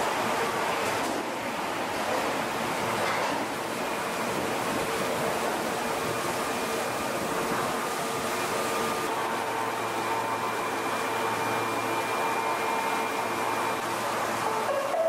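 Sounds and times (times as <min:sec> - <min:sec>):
ventilation hum and hiss: 0:00.0 - 0:14.7.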